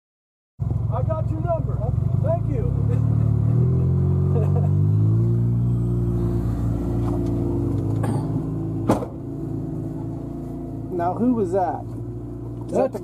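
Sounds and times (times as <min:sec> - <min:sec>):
utility vehicle engine running: 0:00.6 - 0:13.0.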